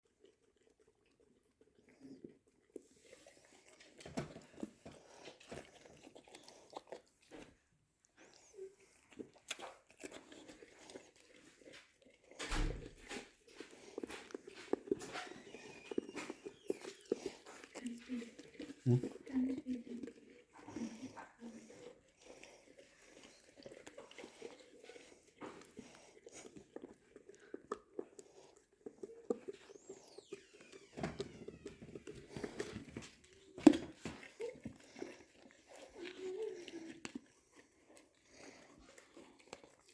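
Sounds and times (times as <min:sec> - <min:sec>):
dog licking and chewing: 0:00.0 - 0:39.9.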